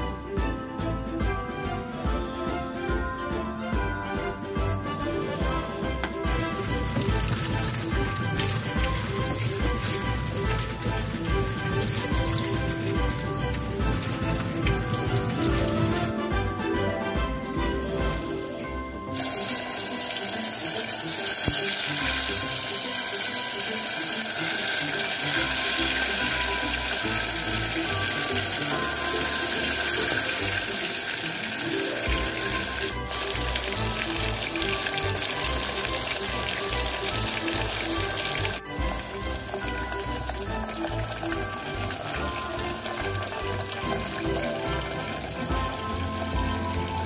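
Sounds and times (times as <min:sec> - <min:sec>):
background music: 0:00.0 - 0:47.0
fritters sizzling in oil: 0:06.3 - 0:16.1, 0:19.1 - 0:47.0.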